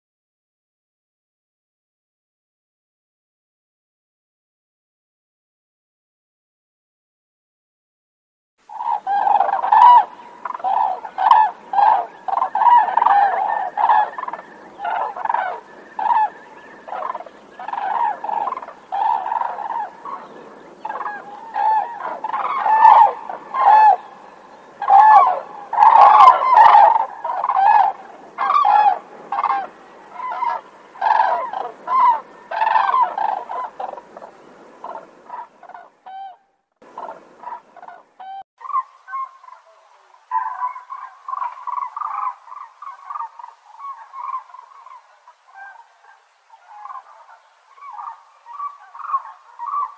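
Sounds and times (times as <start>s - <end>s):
cranes calling: 8.7s - 49.9s.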